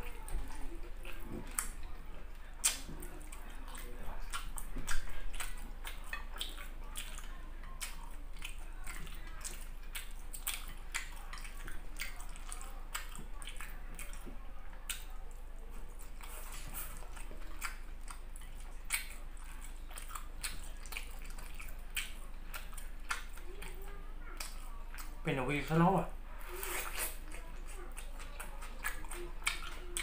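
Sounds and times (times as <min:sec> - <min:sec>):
wet chewing and lip smacking: 0:00.0 - 0:25.8, 0:26.4 - 0:30.0.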